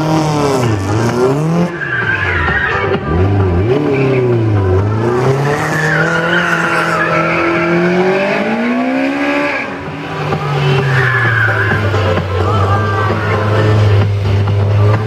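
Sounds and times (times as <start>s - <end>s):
car engine revving: 0.0s - 15.0s
tyres squealing: 0.6s - 14.0s.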